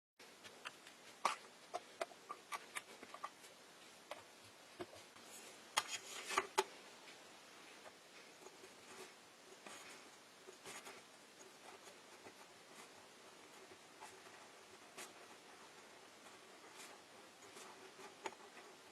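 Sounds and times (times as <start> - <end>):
soft rustling: 0.2 - 18.9.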